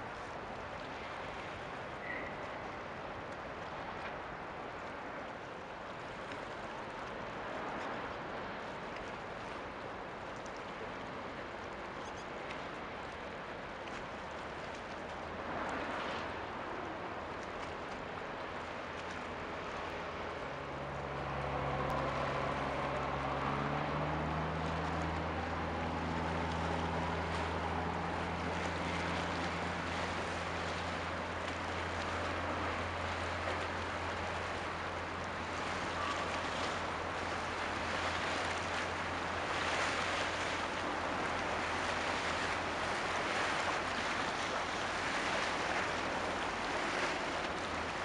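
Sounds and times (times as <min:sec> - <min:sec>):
low engine hum: 0:00.0 - 0:48.0
water washing at shoreline: 0:00.0 - 0:48.0.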